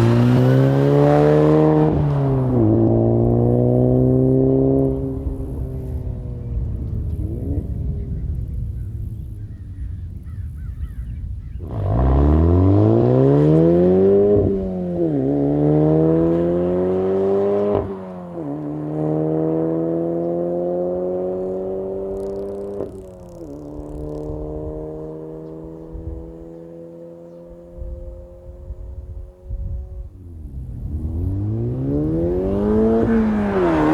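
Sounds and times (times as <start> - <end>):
car engine accelerating hard: 0.0 - 33.9.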